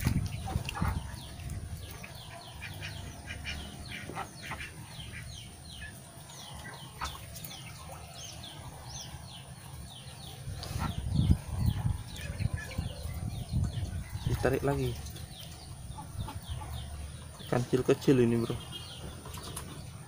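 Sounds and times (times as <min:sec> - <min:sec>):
low steady rumble: 0:00.0 - 0:17.7
birds chirping: 0:00.0 - 0:20.0.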